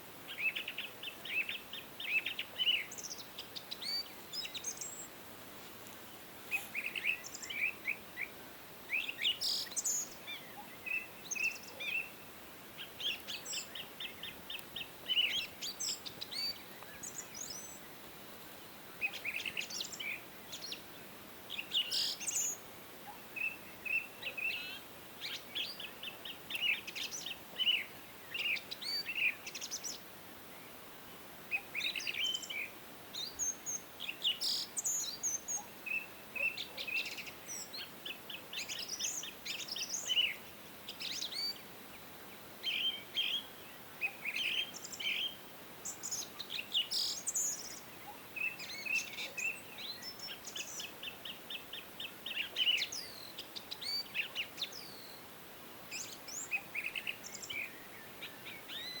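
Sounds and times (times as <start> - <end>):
faint background hiss: 0.0 - 59.0
songbirds chirping: 0.0 - 59.0.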